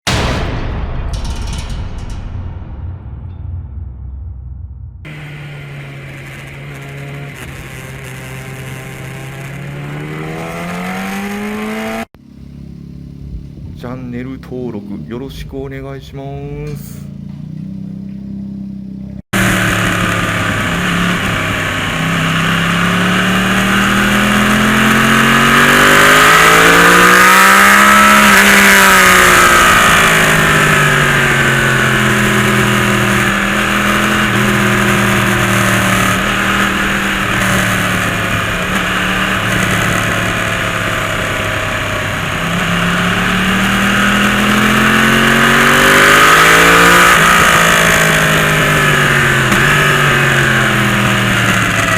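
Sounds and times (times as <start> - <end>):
motorcycle engine revving: 4.9 - 51.9.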